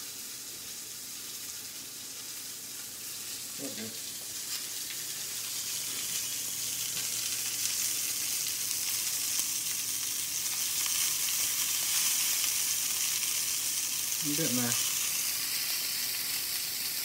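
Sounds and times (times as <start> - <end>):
steak sizzling in a skillet: 0.0 - 17.0.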